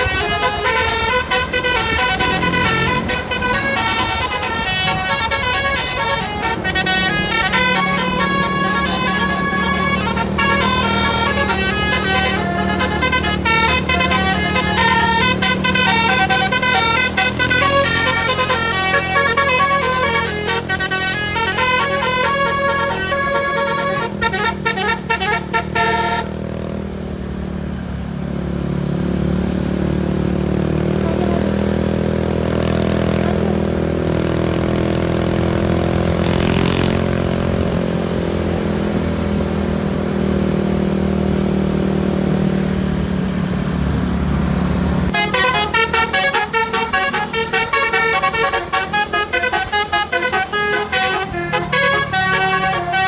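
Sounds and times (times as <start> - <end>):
multi-tone bus air horn melody: 0.0 - 26.9, 31.0 - 39.9, 45.0 - 53.0.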